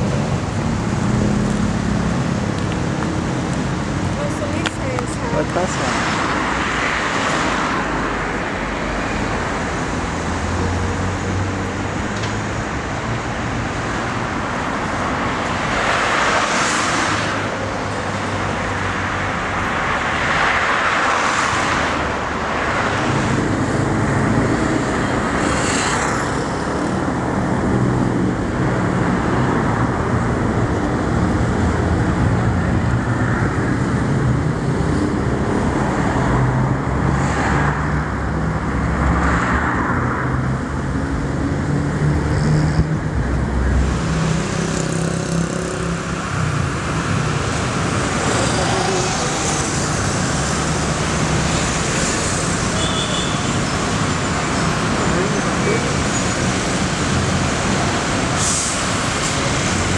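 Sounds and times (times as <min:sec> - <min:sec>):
cars passing: 0:00.0 - 0:59.9
road noise: 0:00.0 - 0:59.9.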